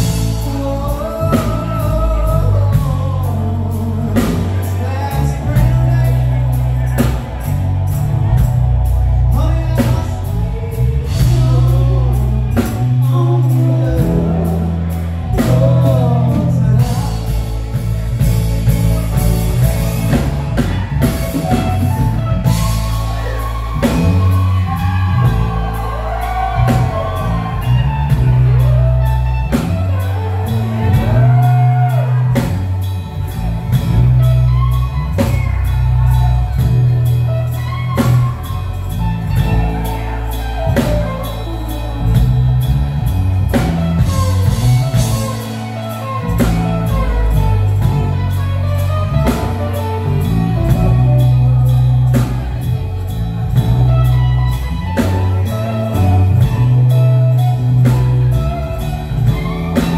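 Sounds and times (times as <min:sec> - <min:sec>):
bass guitar: 0:00.0 - 0:59.9
drum kit: 0:00.0 - 0:59.9
electric guitar lead: 0:00.0 - 0:59.9
keyboard: 0:00.0 - 0:59.9.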